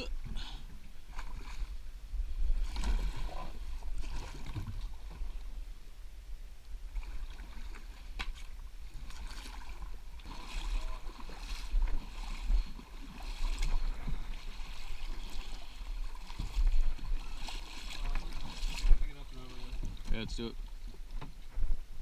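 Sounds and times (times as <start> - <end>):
water splashing around canoe: 0.0 - 5.9, 6.7 - 22.0.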